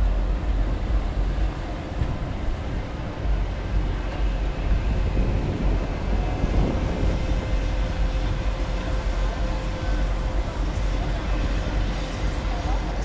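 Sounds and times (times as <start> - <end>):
faint steady hum: 0.0 - 13.0
muffled fairground noise: 0.0 - 13.0
wind buffeting microphone: 0.0 - 13.0.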